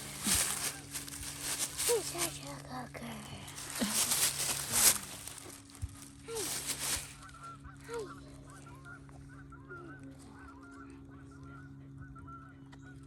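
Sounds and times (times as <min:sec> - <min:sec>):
flock of birds calling: 0:00.0 - 0:02.6, 0:03.6 - 0:13.0
steady low hum: 0:00.0 - 0:13.0.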